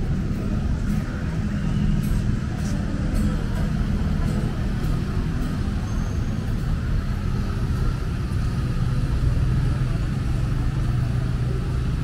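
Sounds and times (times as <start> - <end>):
street noise: 0.0 - 12.0
vehicle engine running: 0.0 - 12.0.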